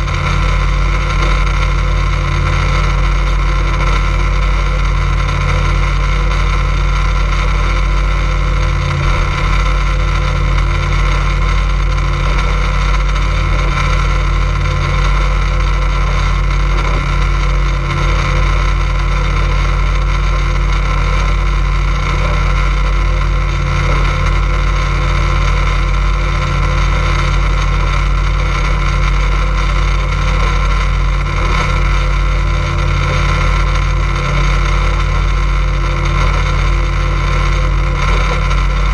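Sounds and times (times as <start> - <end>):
motorboat engine drone: 0.0 - 38.9.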